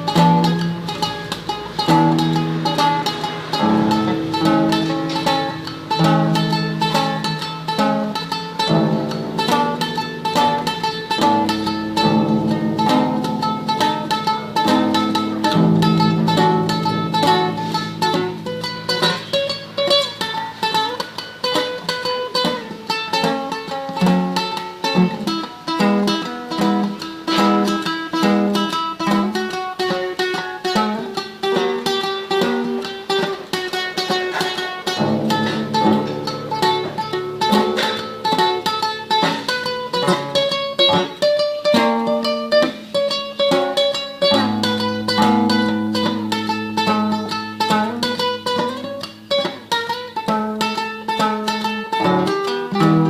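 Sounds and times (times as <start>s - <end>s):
classical guitar tremolo: 0.0s - 53.0s.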